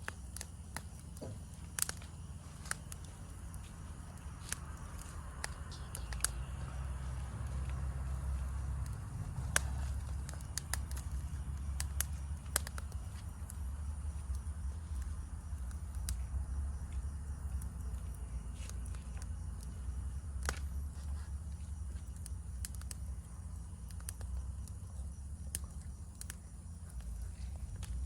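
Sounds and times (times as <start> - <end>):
campfire crackling and popping: 0.0 - 28.0
faint insects chirring: 0.0 - 28.0.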